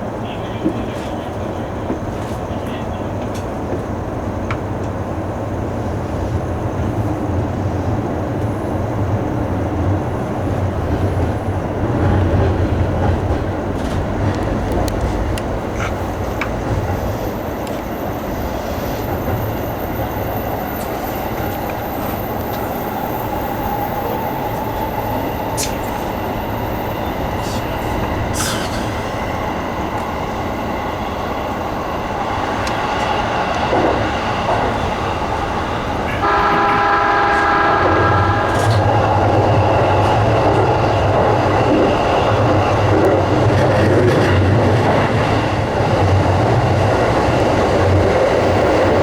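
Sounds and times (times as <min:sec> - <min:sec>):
train running gear rumble: 0:00.0 - 0:49.0.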